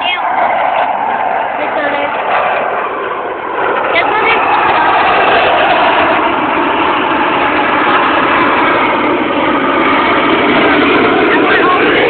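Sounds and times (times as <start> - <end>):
aircraft flying low overhead: 0.0 - 12.0.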